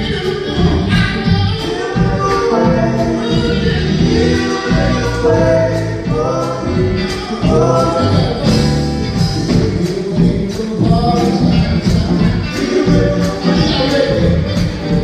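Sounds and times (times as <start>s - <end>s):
band playing gospel music: 0.0s - 15.0s
man singing into microphone: 0.0s - 15.0s.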